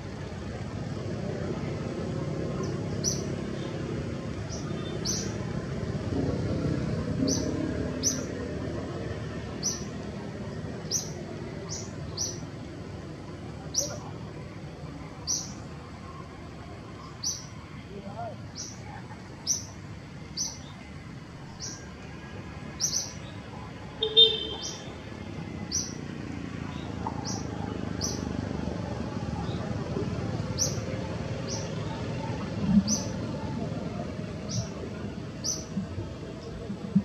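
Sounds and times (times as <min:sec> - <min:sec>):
low rushing background noise: 0:00.0 - 0:37.0.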